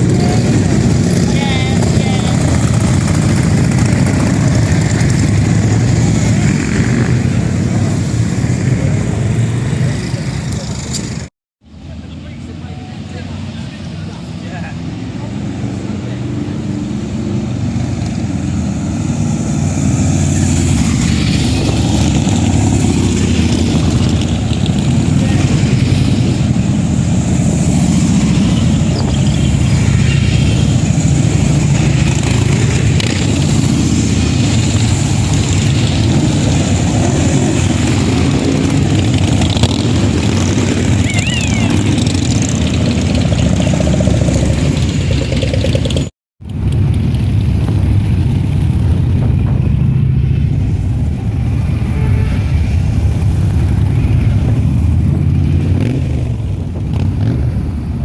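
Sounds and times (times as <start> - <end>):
motorcycles riding past: 0.0 - 11.3, 12.0 - 58.0.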